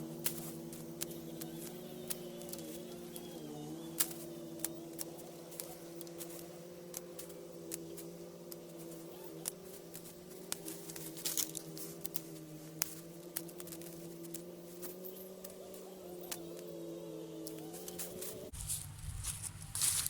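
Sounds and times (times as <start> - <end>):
secateurs snipping twigs: 0.0 - 20.0
steady low hum: 0.0 - 20.0.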